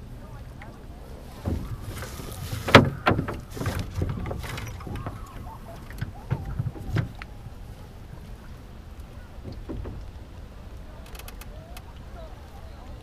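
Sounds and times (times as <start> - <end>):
knocks and clatter on a wooden boat: 0.0 - 13.0
water noise: 0.0 - 13.0
wind: 0.0 - 13.0.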